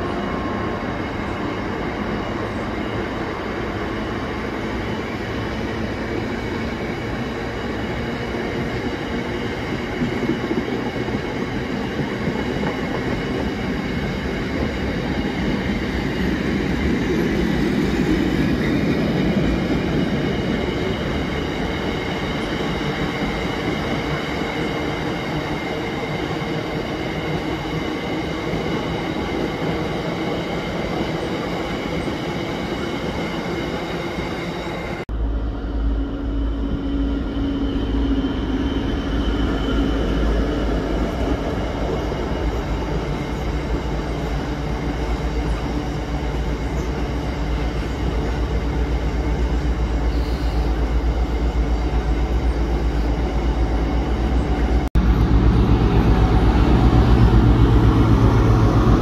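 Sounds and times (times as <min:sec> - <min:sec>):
train wheels rumbling and rattling: 0:00.0 - 0:34.0, 0:34.6 - 0:59.0.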